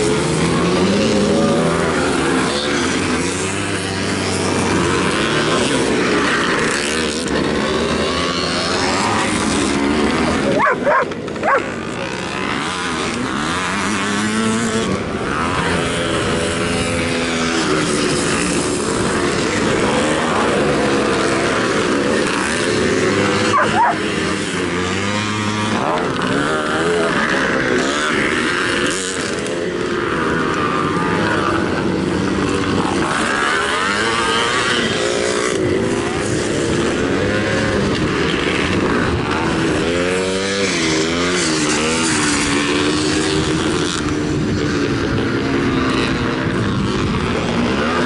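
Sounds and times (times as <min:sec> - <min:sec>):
motocross motorcycles revving: 0:00.0 - 0:48.0.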